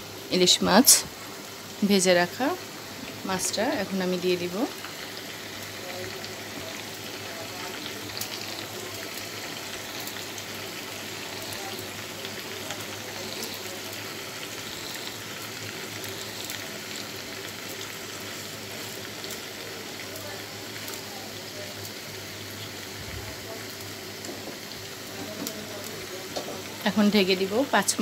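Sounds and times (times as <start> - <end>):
curry bubbling in a pan: 1.1 - 28.0.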